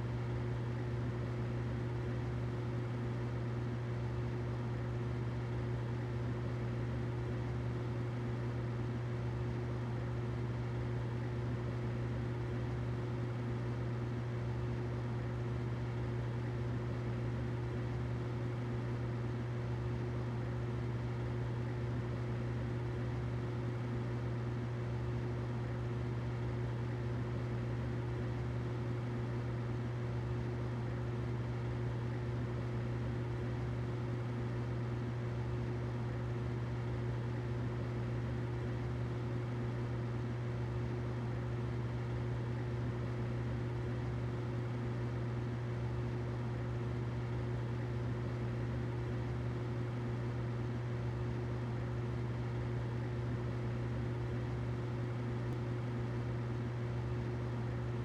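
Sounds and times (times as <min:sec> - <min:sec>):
humidifier humming: 0:00.0 - 0:58.0.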